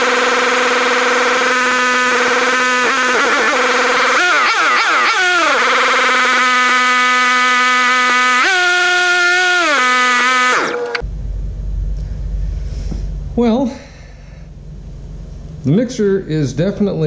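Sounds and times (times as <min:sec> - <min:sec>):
generator engine surging: 0:00.0 - 0:16.8.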